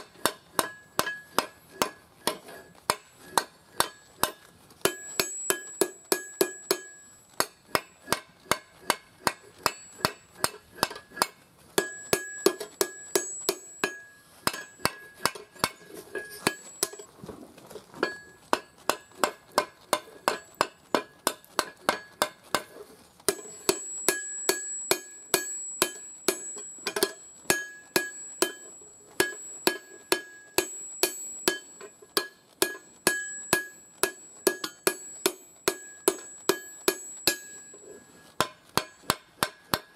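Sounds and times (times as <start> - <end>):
hammer striking steel on anvil: 0.0 - 17.1, 18.0 - 39.9.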